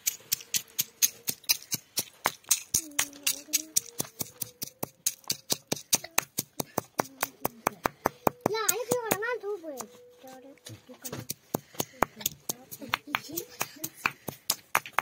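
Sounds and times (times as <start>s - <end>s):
stone pestle pounding in mortar: 0.0s - 9.2s, 11.0s - 15.0s.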